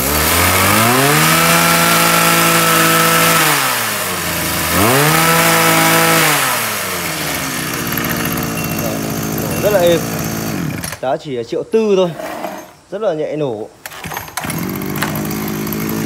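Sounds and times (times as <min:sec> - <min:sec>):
brush cutter engine revving: 0:00.0 - 0:11.1, 0:13.8 - 0:16.0.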